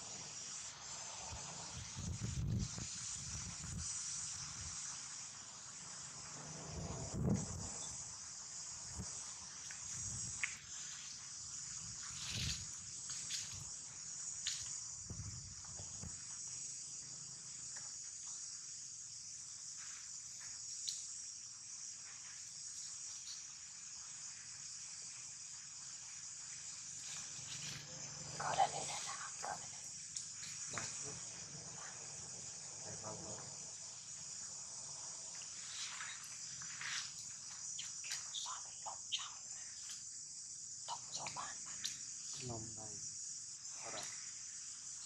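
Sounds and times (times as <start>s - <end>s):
high-pitched insect chorus: 0.0s - 45.0s.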